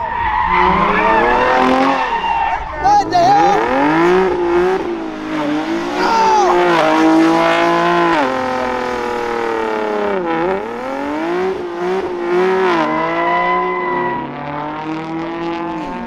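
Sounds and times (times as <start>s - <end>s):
tires spinning: 0.0s - 16.0s
car engine revving high: 3.0s - 16.0s.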